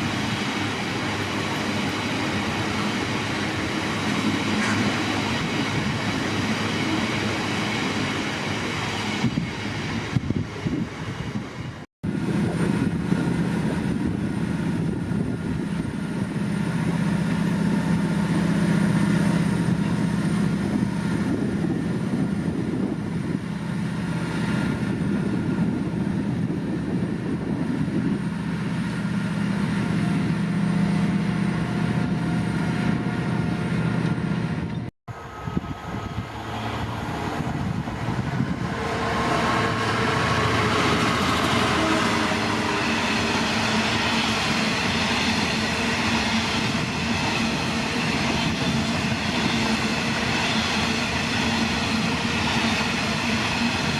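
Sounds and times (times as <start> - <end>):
diesel locomotive engine drone: 0.0 - 53.9
rumble of train wagons: 0.0 - 53.9.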